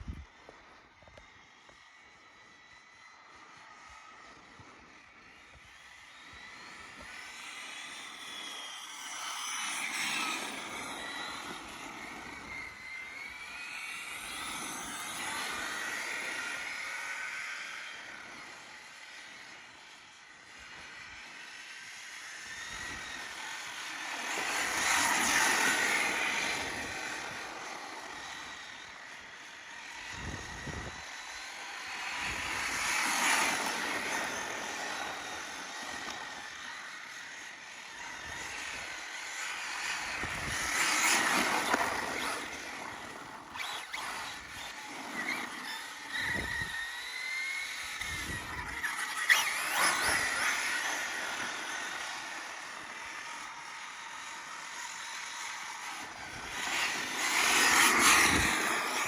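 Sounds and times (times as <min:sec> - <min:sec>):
rc car motor whining: 0:00.0 - 0:59.0.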